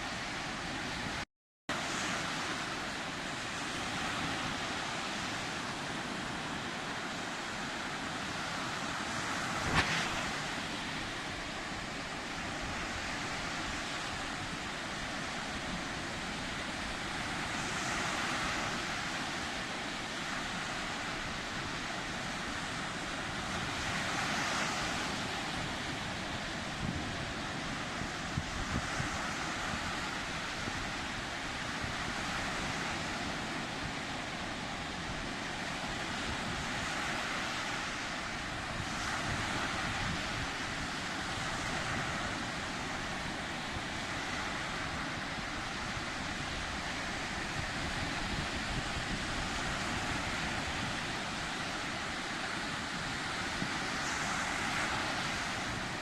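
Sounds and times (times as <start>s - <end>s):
sea waves rushing: 0.0s - 56.0s
wind on microphone: 0.0s - 56.0s.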